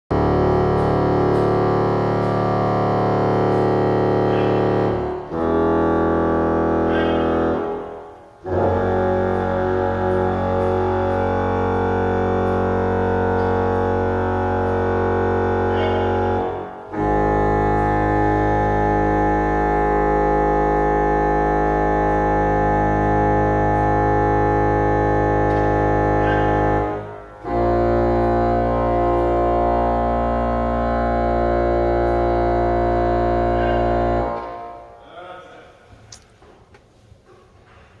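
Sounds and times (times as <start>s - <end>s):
pipe organ low reed notes: 0.1s - 35.4s.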